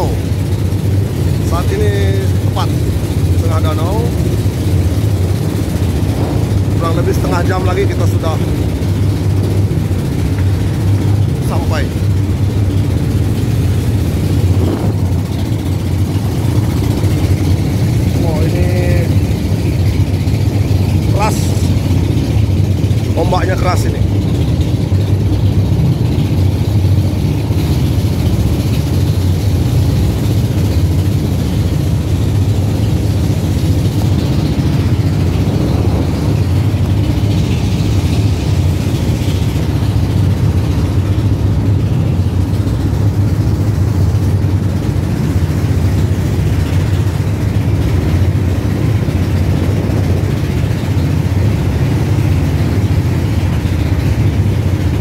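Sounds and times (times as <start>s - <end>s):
boat engine drone: 0.0s - 55.0s
rushing wind: 0.0s - 55.0s
water rushing against boat: 0.0s - 55.0s.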